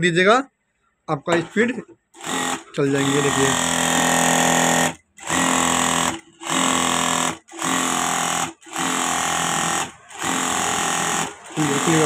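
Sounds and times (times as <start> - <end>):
sewing machine humming: 2.2 - 12.0.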